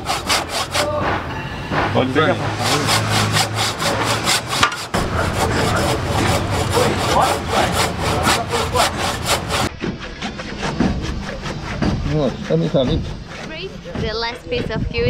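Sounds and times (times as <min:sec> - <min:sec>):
handsaw cutting timber: 0:00.0 - 0:01.2, 0:01.8 - 0:14.7
dull sound: 0:00.0 - 0:14.1.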